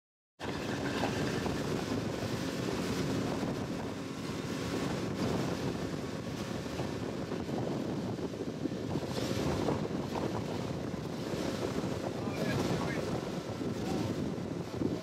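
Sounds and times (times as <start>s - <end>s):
open water: 0.4s - 15.0s
wind noise on microphone: 0.4s - 15.0s.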